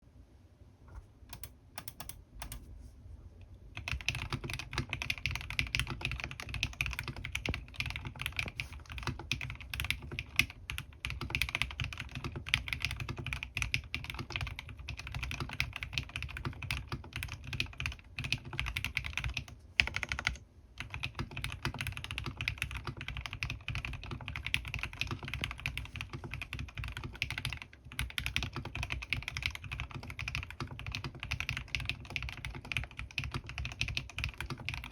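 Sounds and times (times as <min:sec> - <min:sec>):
mechanical keyboard typing: 0:01.3 - 0:02.7, 0:03.8 - 0:34.9.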